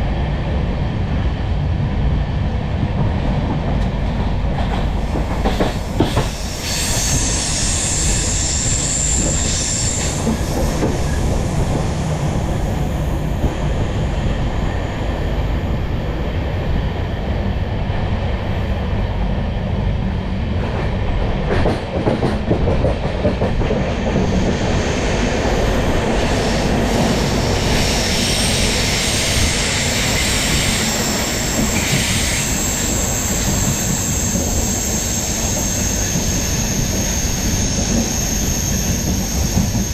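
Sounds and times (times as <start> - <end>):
rumble of train wheels on rails: 0.0 - 39.9.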